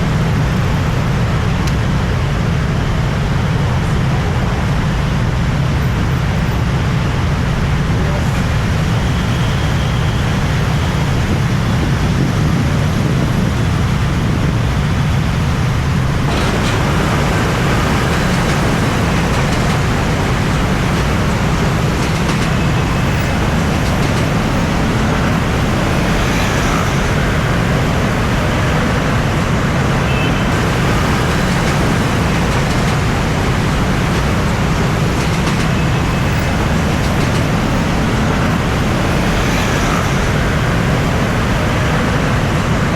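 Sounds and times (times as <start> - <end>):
road traffic rumble: 0.0 - 42.9.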